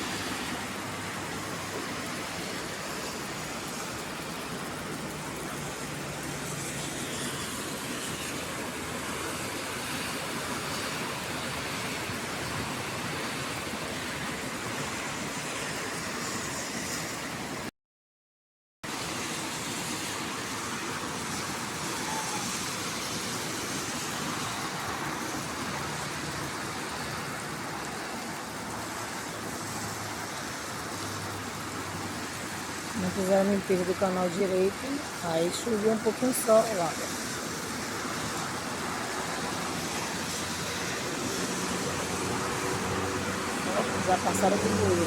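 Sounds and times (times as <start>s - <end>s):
rainwater runoff rushing: 0.0s - 17.7s, 18.8s - 45.0s.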